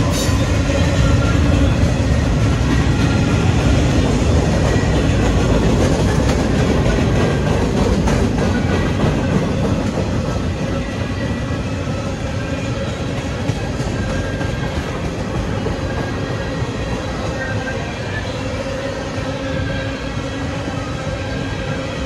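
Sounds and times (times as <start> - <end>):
freight train wheel-on-rail noise: 0.0 - 22.0.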